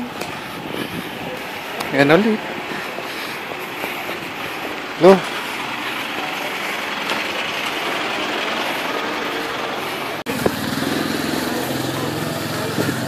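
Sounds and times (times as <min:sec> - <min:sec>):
street noise: 0:00.0 - 0:13.0
small motorcycle engine running: 0:02.0 - 0:13.0.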